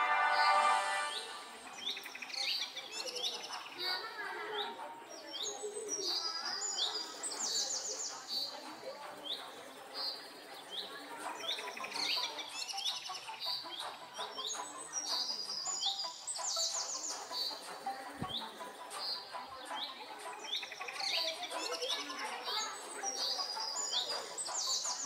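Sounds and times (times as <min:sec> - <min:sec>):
small birds chirping: 0:01.7 - 0:25.0.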